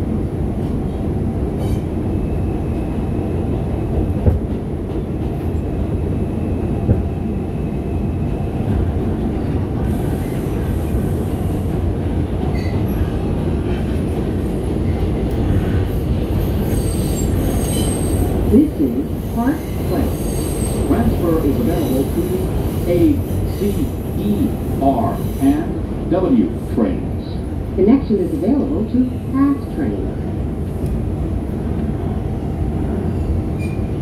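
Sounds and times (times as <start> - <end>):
subway wheels rumbling on rail: 0.0 - 34.0.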